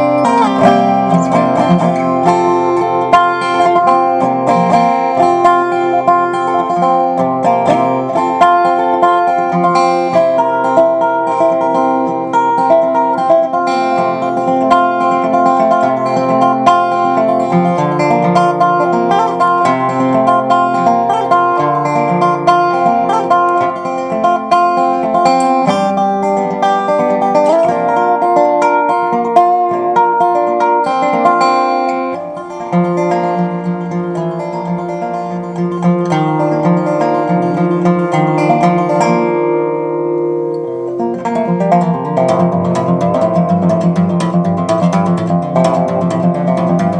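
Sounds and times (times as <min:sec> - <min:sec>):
resophonic guitar playing: 0:00.0 - 0:46.9.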